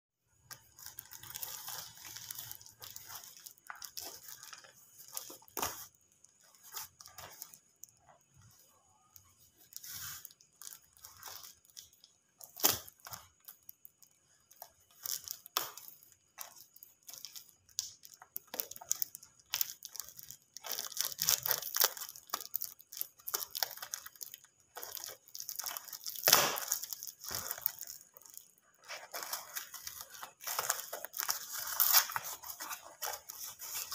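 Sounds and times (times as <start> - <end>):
plastic and tape crinkling: 0.3 - 33.9
scissors cutting wrapping: 0.4 - 8.0, 9.7 - 13.8, 14.5 - 33.9.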